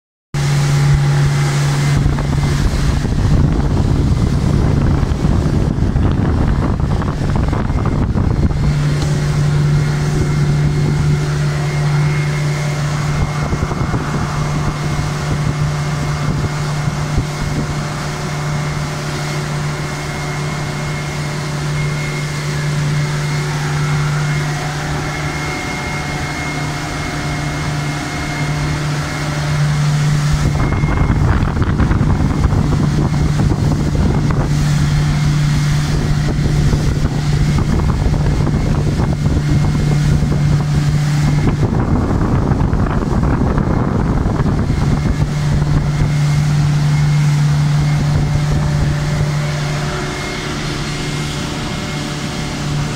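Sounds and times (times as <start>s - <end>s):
outboard motor drone: 0.4s - 52.9s
water rushing: 0.4s - 52.9s
wind buffeting microphone: 0.4s - 52.9s.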